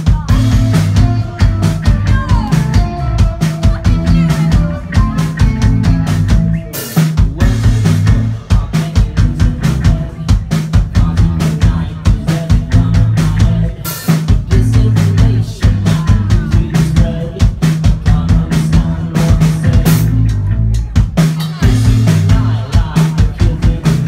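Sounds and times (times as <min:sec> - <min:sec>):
drum kit hitting fast: 0:00.0 - 0:24.0
rock band playing live: 0:00.0 - 0:24.0.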